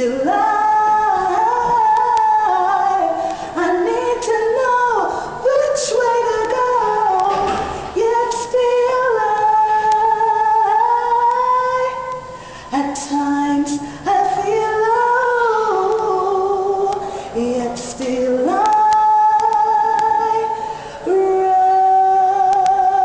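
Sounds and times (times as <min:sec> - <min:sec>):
woman singing gospel: 0:00.0 - 0:23.0.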